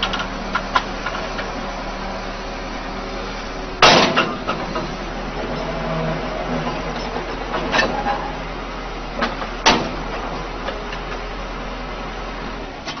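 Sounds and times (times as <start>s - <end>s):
excavator running: 0.0s - 13.0s.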